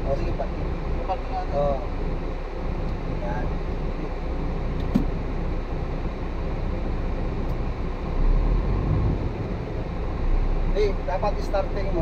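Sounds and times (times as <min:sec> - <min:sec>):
diesel engine rumble from cab: 0:00.0 - 0:12.0.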